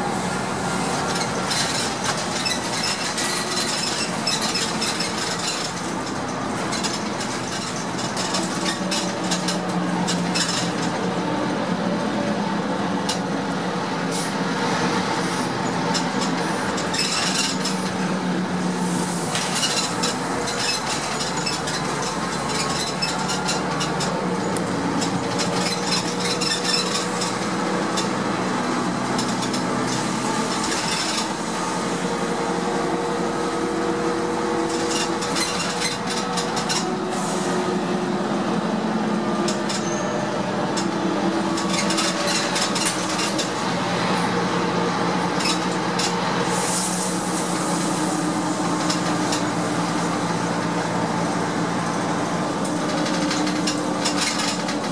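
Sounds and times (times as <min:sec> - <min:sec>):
bus engine droning: 0:00.0 - 0:54.9.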